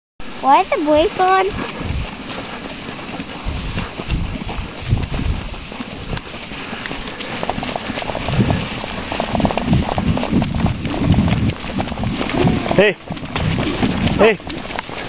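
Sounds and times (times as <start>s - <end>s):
sled runners scraping on snow: 0.2s - 15.0s
sled tipping over jolt: 0.3s - 15.0s
dogs' footfalls: 1.0s - 15.0s.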